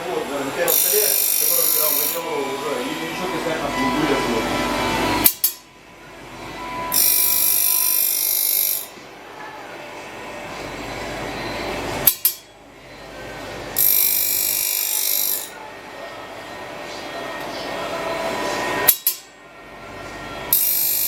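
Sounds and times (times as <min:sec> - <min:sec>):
grinding wheel high-pitched grind: 0:00.0 - 0:09.2, 0:10.2 - 0:21.0
low machine hum: 0:00.0 - 0:21.0.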